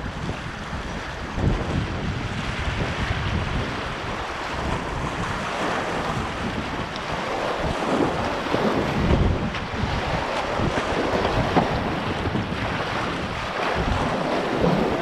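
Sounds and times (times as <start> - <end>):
whitewater rushing and splashing: 0.0 - 15.0
wind buffeting microphone: 0.0 - 15.0.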